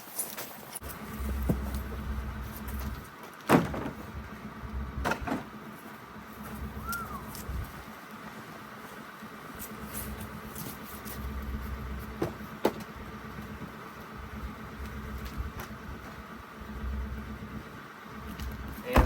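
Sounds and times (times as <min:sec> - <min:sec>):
truck engine idling: 0:00.8 - 0:19.0.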